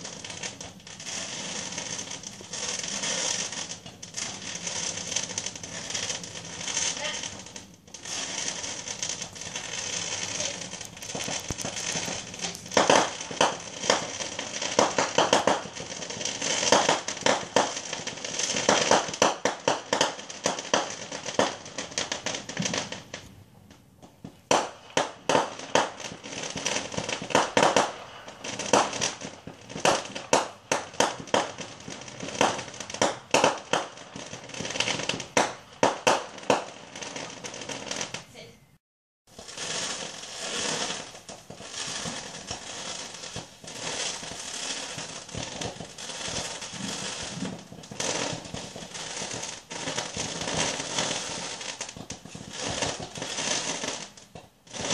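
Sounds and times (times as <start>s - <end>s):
fireworks popping and crackling: 0.0s - 38.5s, 39.3s - 54.9s.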